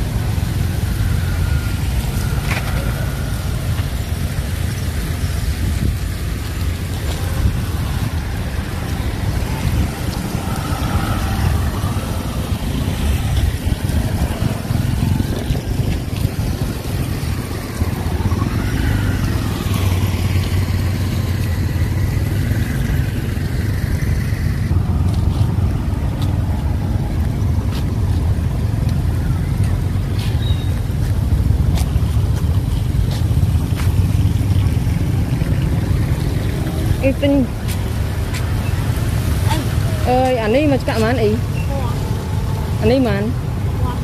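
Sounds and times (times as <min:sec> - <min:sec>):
low rumble of vehicle noise: 0:00.0 - 0:44.0.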